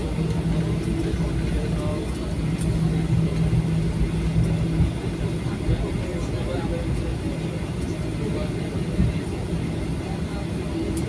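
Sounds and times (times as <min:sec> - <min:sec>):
aircraft engines and wheels rumbling: 0:00.0 - 0:11.0
low hum: 0:00.0 - 0:11.0.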